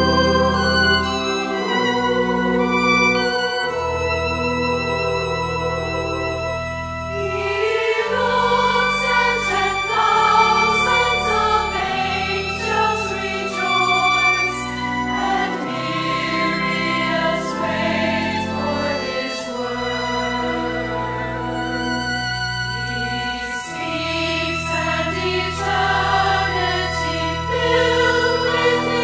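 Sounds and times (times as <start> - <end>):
women's choir singing a hymn: 0.0 - 6.2, 7.1 - 22.0, 22.9 - 29.0
organ sustained notes: 0.0 - 29.0
violin: 0.0 - 29.0.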